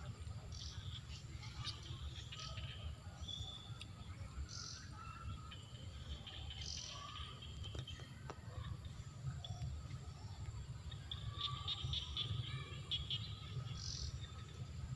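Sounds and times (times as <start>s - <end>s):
birds chirping: 0.0s - 14.9s.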